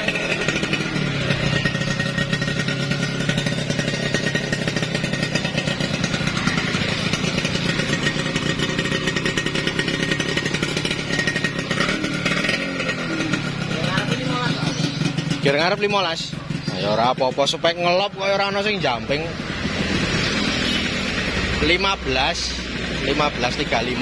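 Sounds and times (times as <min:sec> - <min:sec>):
two-stroke motorcycle engine running: 0:00.0 - 0:24.0.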